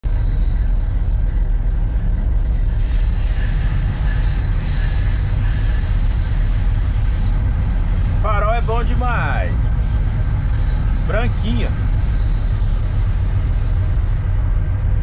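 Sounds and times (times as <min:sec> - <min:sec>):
locomotive cab low rumble: 0:00.0 - 0:15.0.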